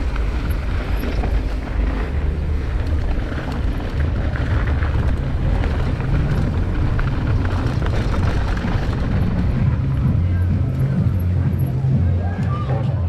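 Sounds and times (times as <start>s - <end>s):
bike clicks and rattles: 0.0s - 12.0s
wind buffeting microphone: 0.0s - 12.1s
bike tyres rolling on dirt: 0.0s - 12.2s.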